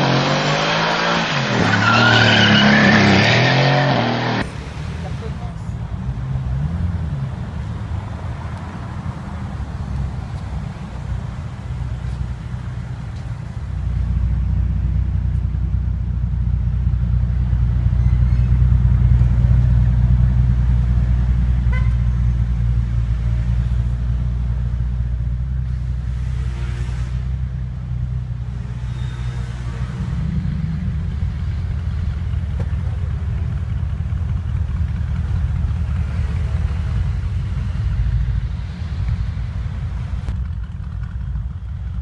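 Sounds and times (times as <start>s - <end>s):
car engine running at low revs: 4.1s - 29.0s, 29.7s - 42.0s.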